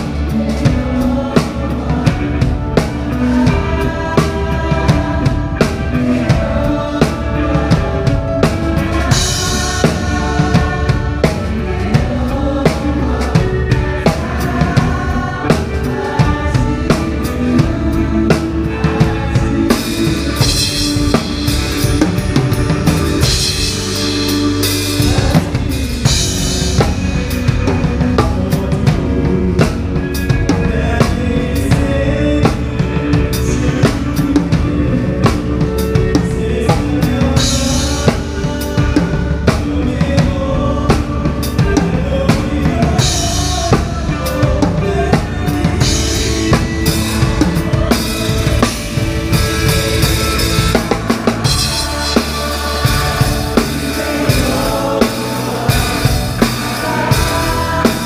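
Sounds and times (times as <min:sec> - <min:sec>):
band accompaniment: 0:00.0 - 0:58.0
drum kit groove: 0:00.0 - 0:58.0.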